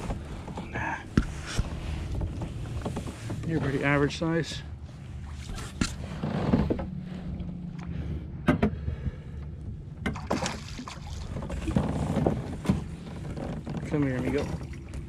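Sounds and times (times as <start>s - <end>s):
wind and water against hull: 0.0s - 15.0s.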